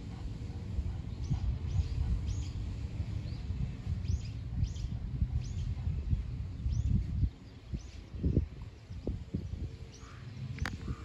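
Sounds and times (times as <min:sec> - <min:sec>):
low uneven rumble: 0:00.0 - 0:11.0.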